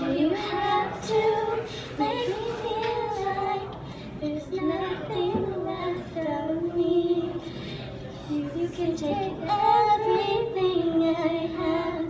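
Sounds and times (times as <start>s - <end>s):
girl singing through a microphone: 0.0s - 12.0s.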